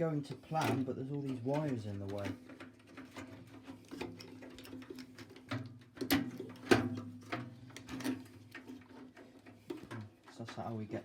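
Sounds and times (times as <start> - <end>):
clicks and knocks of parts: 0.3 - 10.8.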